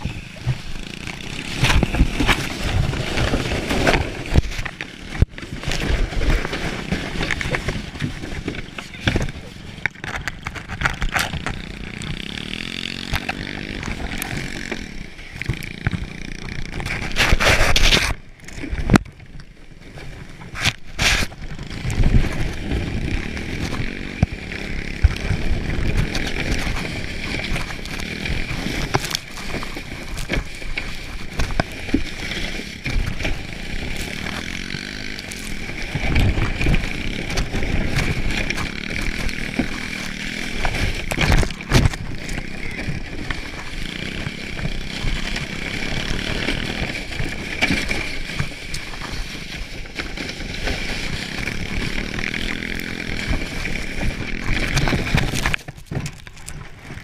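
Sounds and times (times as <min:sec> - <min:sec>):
plastic sled scraping over snow: 0:00.0 - 0:57.0
small motorbike engine running: 0:00.0 - 0:57.0.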